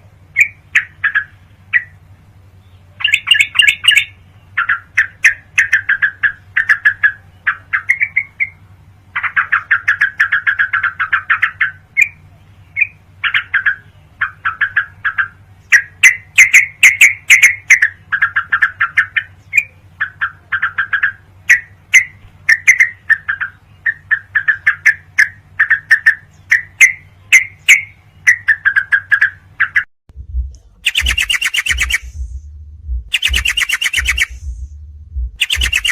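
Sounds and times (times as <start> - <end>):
bird chattering song: 0.0 - 29.9, 30.6 - 32.4, 33.1 - 35.9
steady low hum: 0.0 - 35.9.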